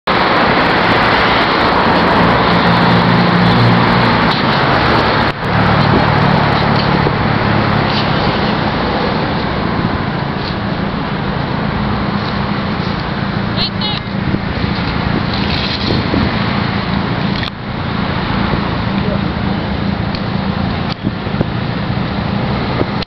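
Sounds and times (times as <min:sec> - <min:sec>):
road traffic passing cars: 0:00.0 - 0:23.0
low engine hum: 0:00.1 - 0:23.0.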